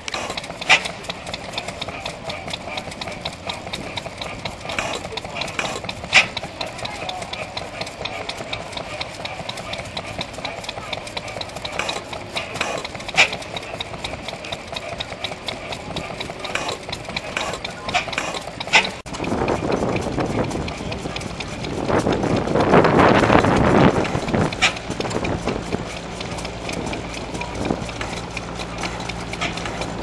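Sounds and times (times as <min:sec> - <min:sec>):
loud sharp engine bangs: 0:00.0 - 0:30.0
stationary engine clicking: 0:00.0 - 0:30.0.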